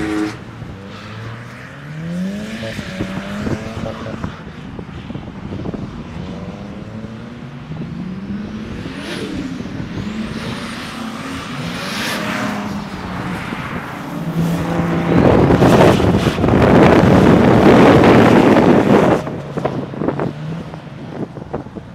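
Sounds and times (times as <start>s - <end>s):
car engine revving: 0.0s - 4.5s, 5.6s - 21.6s.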